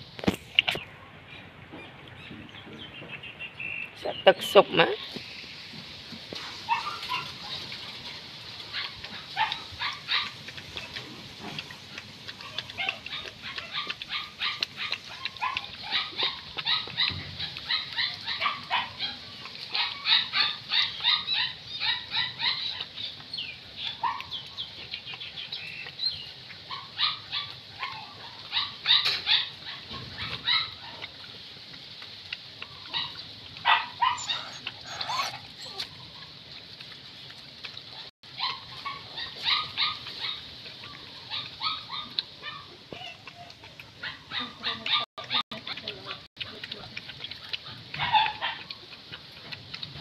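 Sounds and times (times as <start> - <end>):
puppy chewing and lapping: 0.0 - 50.0.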